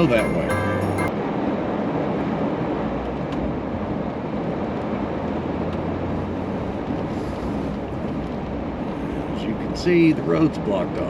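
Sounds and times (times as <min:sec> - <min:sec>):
road noise inside car: 0:00.0 - 0:11.0.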